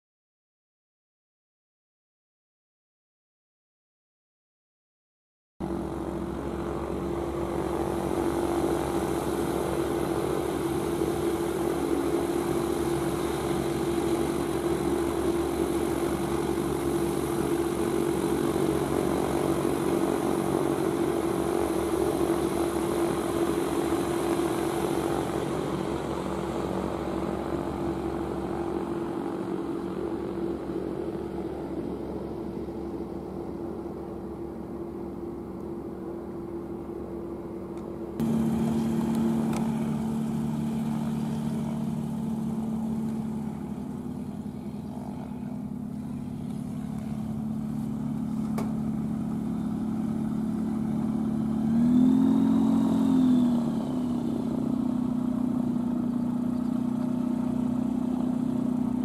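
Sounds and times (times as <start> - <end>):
light aircraft propeller engine droning: 5.6 - 59.0.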